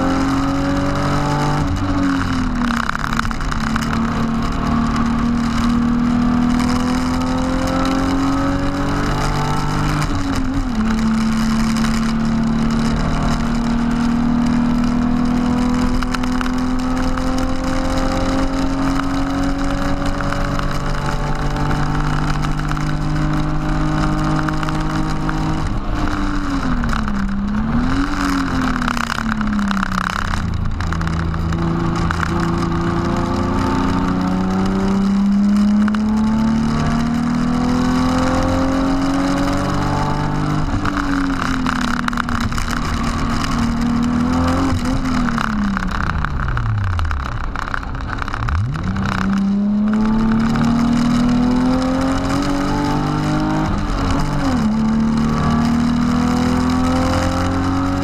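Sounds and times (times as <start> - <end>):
car engine revving at full throttle: 0.0 - 58.0.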